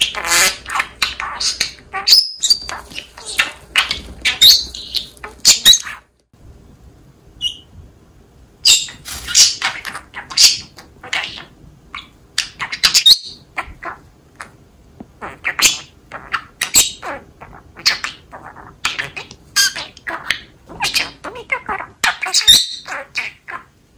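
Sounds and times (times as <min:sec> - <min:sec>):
budgerigar chattering: 0:00.0 - 0:06.1, 0:08.7 - 0:14.0, 0:15.2 - 0:23.7.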